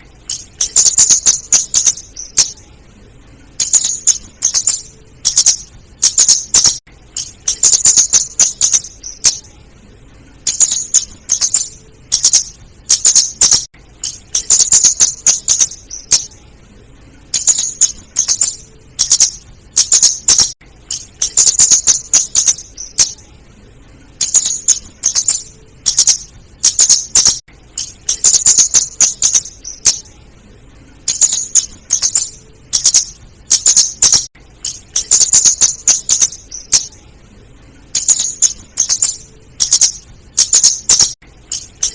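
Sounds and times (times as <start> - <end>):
high-pitched bird chips: 0.0 - 2.7, 3.4 - 9.6, 10.3 - 16.5, 17.2 - 23.3, 24.1 - 30.2, 30.9 - 37.1, 37.8 - 41.9.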